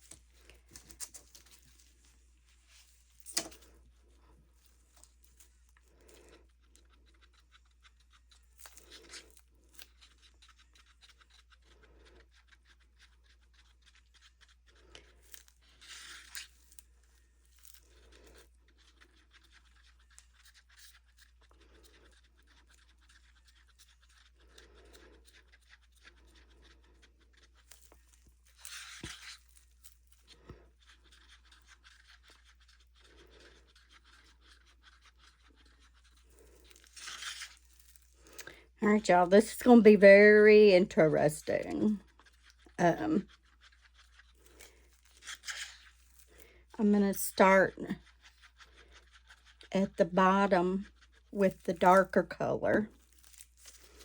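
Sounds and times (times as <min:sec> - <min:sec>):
rustling: 0:00.0 - 0:54.0
stir sticks scraping plastic cups: 0:00.0 - 0:54.0.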